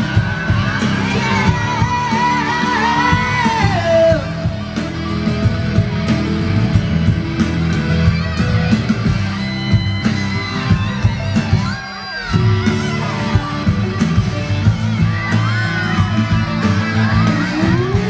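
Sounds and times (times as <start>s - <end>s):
bass guitar: 0.0s - 18.0s
drums: 0.0s - 18.0s
electric guitar with bends: 0.0s - 18.0s.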